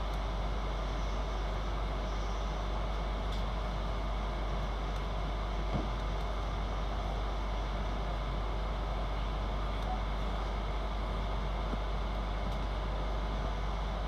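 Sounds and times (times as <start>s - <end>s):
electric train rumble and hiss: 0.0s - 14.0s.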